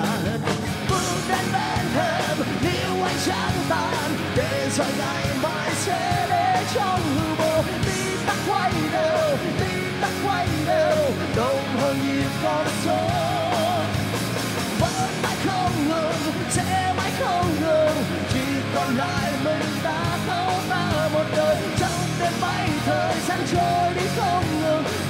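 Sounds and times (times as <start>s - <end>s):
man singing with vibrato: 0.0s - 14.1s, 14.8s - 25.0s
distorted electric guitar: 0.0s - 25.0s
rock band playing: 0.0s - 25.0s.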